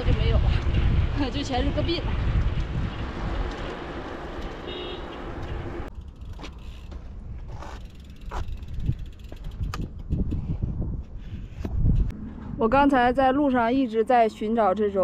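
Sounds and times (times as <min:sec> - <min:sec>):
wind and road noise from bicycle: 0:00.0 - 0:13.9.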